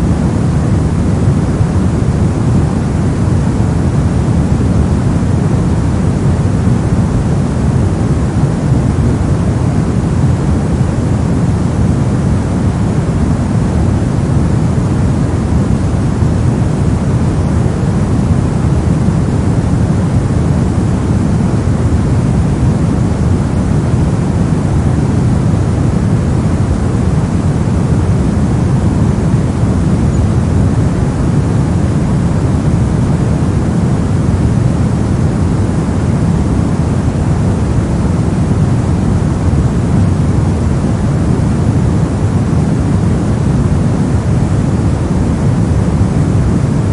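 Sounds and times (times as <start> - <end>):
white noise hiss: 0.0 - 46.9.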